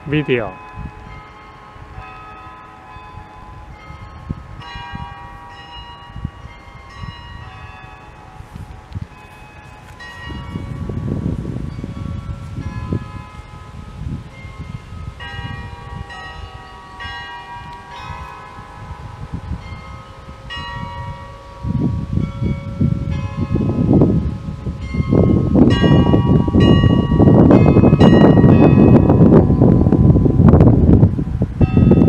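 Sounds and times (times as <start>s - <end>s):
church bells ringing: 0.0s - 32.0s
wind rumbling on microphone: 0.0s - 32.0s.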